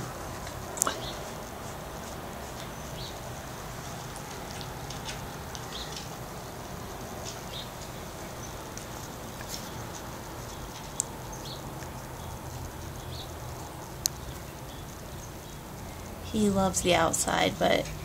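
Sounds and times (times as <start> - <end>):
background hiss and hum: 0.0 - 18.0
small birds chirping: 0.0 - 18.0.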